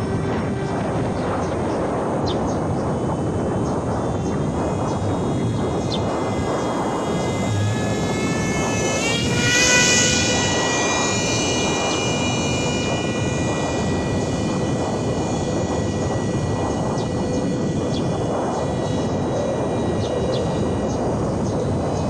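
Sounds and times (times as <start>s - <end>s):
constant rushing noise: 0.0s - 22.0s
model plane motor whining: 0.0s - 22.0s.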